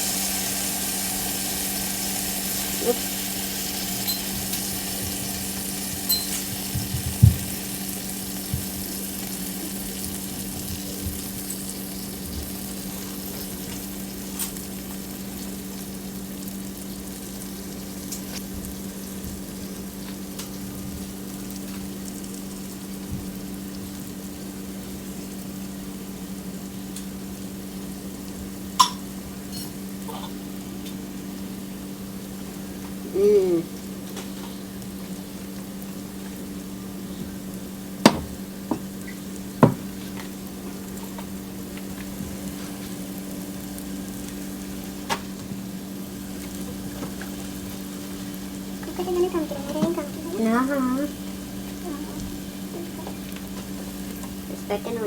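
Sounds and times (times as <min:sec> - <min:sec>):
food sizzling in pressure cooker: 0:00.0 - 0:55.0.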